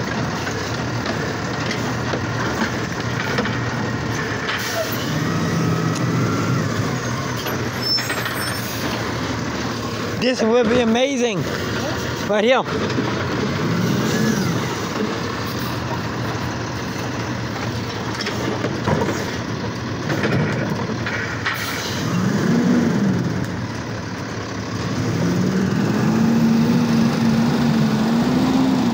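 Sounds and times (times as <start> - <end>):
garbage truck diesel engine revving: 0.0 - 28.9.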